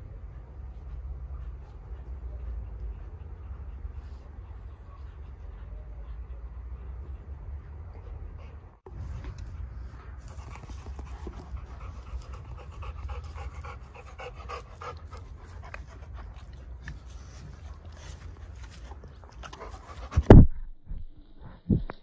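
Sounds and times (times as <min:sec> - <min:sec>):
animal panting: 0:00.0 - 0:20.4.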